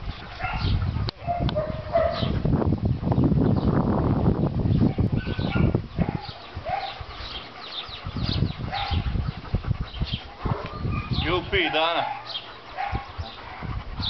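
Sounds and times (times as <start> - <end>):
dogs panting: 0.0 - 14.0.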